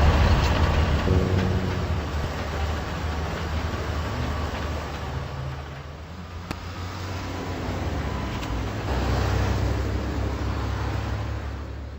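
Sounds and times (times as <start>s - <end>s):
highway traffic rumble: 0.0s - 11.9s.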